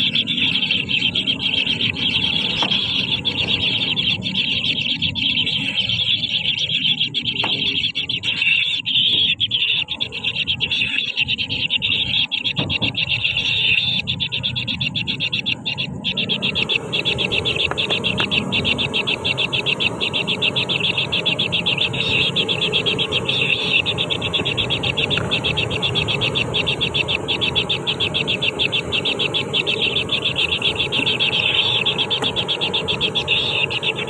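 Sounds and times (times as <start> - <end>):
nestling birds begging chirps: 0.0 - 34.0.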